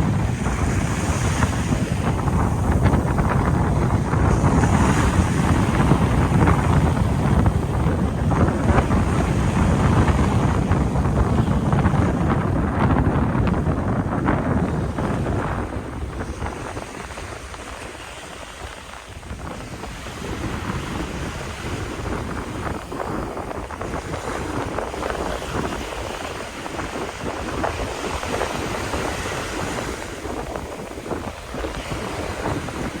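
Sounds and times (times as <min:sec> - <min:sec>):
sea waves: 0:00.0 - 0:33.0
wind buffeting microphone: 0:00.0 - 0:33.0.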